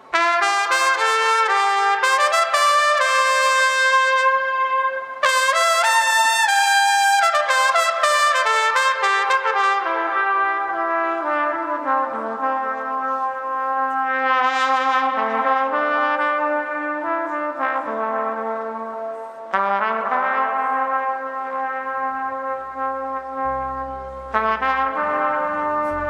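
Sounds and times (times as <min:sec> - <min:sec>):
trumpet playing slow melody: 0:00.0 - 0:26.0.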